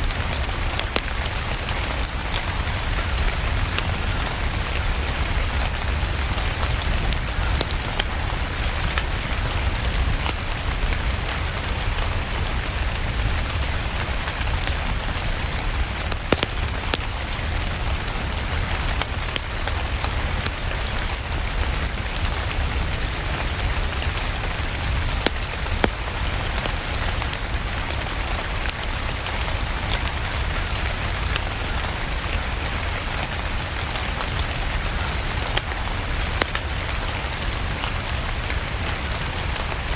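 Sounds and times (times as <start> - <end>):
fire crackling and popping: 0.0 - 39.9
steady rain: 0.0 - 39.9.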